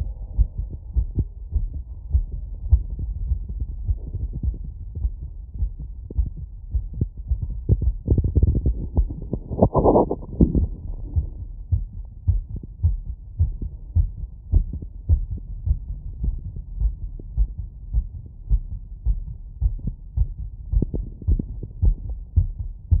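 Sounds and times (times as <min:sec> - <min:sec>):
heartbeat through stethoscope: 0:00.0 - 0:23.0.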